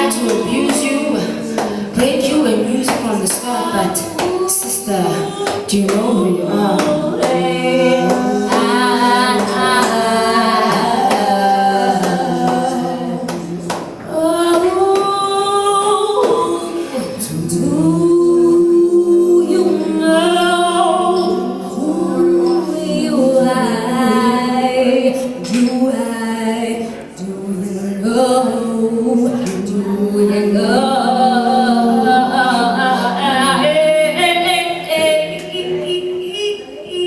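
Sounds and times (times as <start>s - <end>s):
woman singing: 0.0s - 37.0s
woman singing a slow melody: 0.0s - 37.0s.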